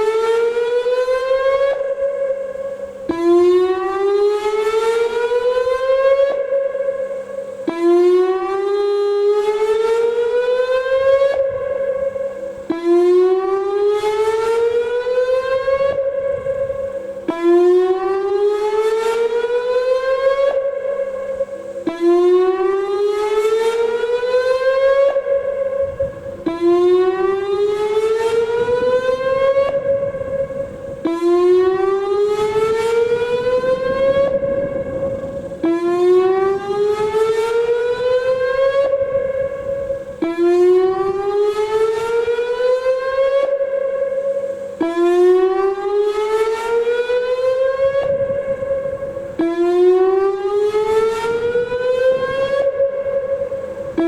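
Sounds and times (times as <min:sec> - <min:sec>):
warning siren whooping: 0:00.0 - 0:54.0.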